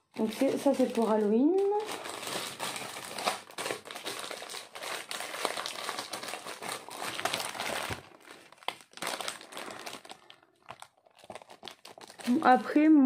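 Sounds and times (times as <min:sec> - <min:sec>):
plastic packaging crinkling: 0:00.0 - 0:12.9.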